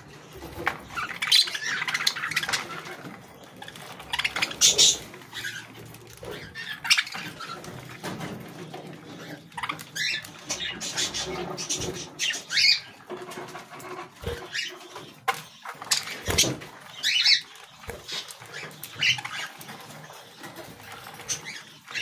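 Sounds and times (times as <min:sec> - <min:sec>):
budgerigars chattering: 0:00.4 - 0:07.8, 0:09.0 - 0:13.1, 0:13.9 - 0:22.0
bird squawks: 0:00.9 - 0:07.8, 0:09.1 - 0:13.0, 0:14.2 - 0:22.0.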